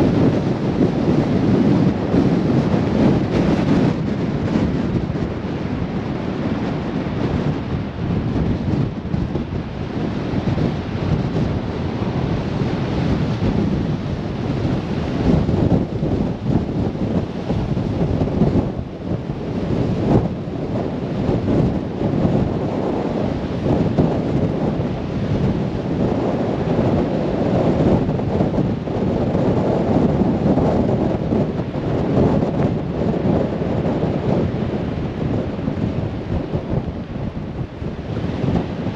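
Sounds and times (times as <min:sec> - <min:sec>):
blizzard wind gusting: 0:00.0 - 0:38.9.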